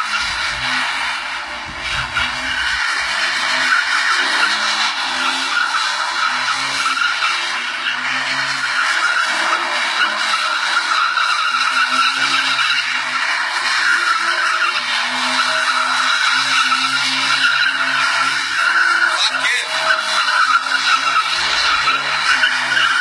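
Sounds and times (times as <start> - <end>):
car engine revving: 0.0 - 23.0
tyres squealing: 0.0 - 23.0.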